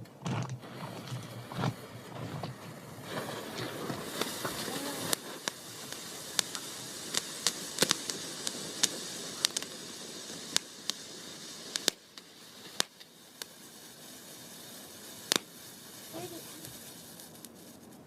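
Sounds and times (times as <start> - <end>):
crackling pops: 0.0 - 18.0
firework hissing: 0.6 - 18.0.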